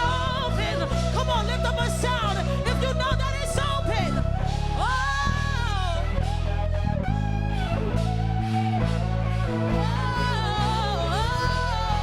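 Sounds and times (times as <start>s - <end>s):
held bass notes: 0.0s - 12.0s.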